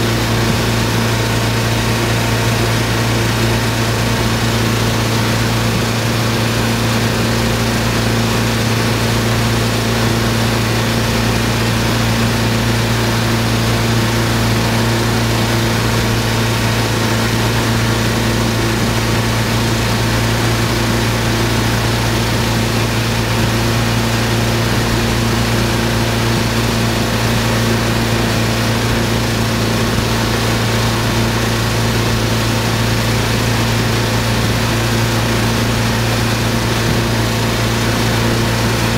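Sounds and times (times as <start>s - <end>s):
boat engine droning: 0.0s - 38.9s
rush of churning wake: 0.0s - 38.9s.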